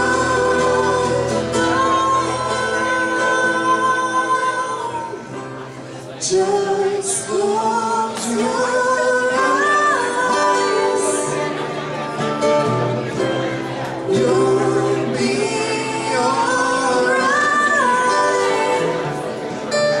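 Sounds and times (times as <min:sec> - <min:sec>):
woman singing slow song: 0:00.0 - 0:11.6, 0:14.0 - 0:20.0
acoustic guitars: 0:00.0 - 0:20.0.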